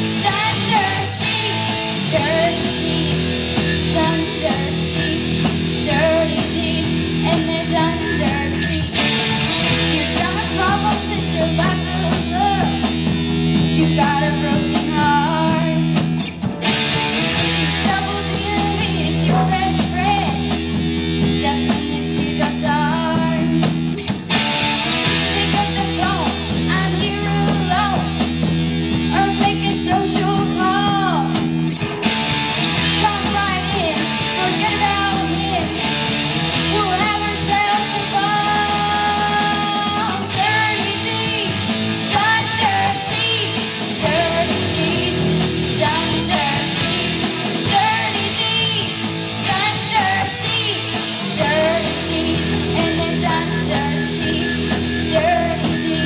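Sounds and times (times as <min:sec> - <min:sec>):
girl singing lead: 0:00.0 - 0:16.2, 0:17.3 - 0:31.8, 0:32.7 - 0:56.0
distorted electric guitars: 0:00.0 - 0:56.0
drum kit: 0:00.0 - 0:56.0
electric bass: 0:00.0 - 0:56.0.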